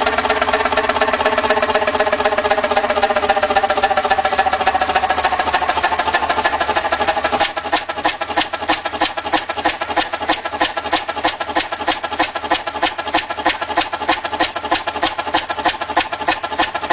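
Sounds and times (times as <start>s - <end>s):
old engine clicking: 0.0s - 16.9s.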